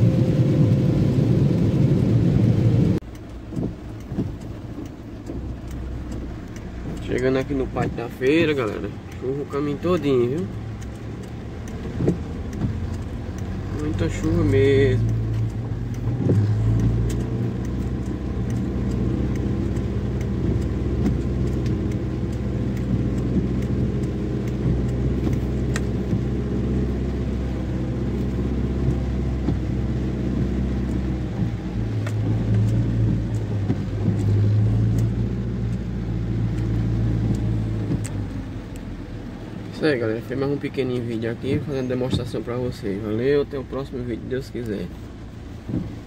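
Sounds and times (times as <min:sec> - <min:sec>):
car engine and road noise: 0:00.0 - 0:46.0
rain ticking on car: 0:00.0 - 0:46.0.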